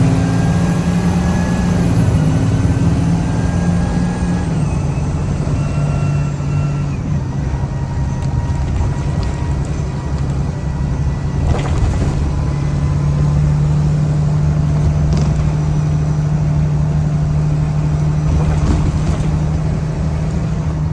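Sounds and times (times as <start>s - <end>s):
bus engine droning: 0.0s - 20.9s.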